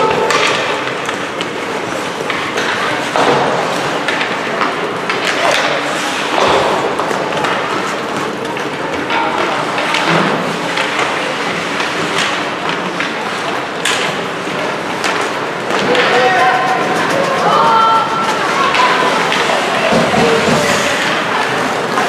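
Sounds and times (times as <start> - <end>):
skate blades scraping ice: 0.0 - 9.0, 9.6 - 22.0
hockey sticks and puck clacking: 0.0 - 22.0.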